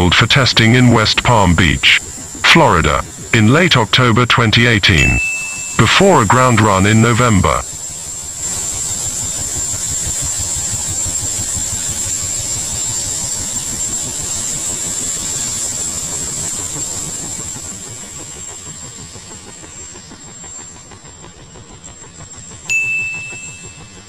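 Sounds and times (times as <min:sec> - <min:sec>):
helicopter rotor chop: 0:00.0 - 0:24.0
high engine whine: 0:00.0 - 0:24.0.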